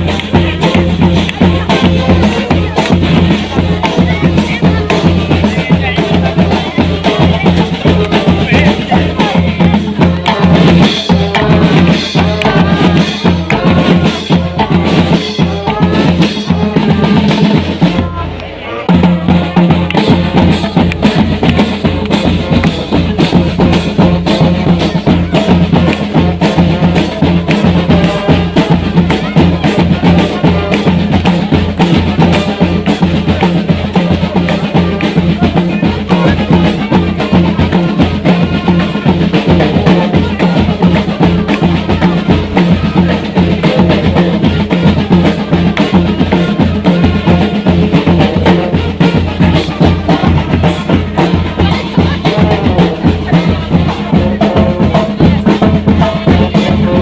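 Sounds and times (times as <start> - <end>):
bass drum: 0.0 - 57.0
military band playing march: 0.0 - 57.0
snare drum: 0.0 - 57.0.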